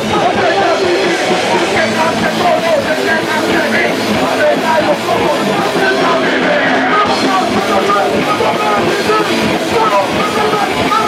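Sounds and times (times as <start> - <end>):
person singing into microphone: 0.0 - 11.0
punk band playing live: 0.0 - 11.0.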